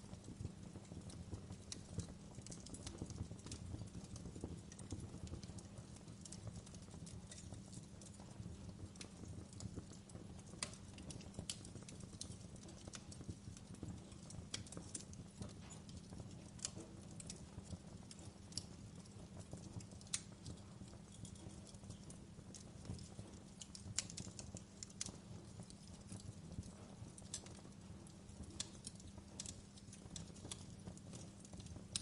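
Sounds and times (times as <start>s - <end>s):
low fire rumble: 0.0s - 32.0s
wood fire crackling and popping: 0.0s - 32.0s.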